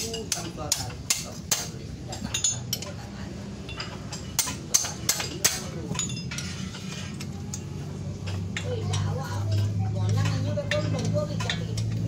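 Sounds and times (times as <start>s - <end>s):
spanner clinking on metal: 0.0s - 3.0s, 3.6s - 12.0s.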